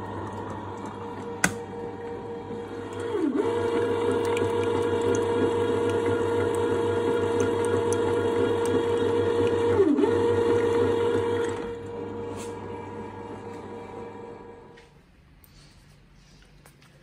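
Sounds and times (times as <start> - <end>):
bread maker kneading motor humming: 0.0 - 14.9.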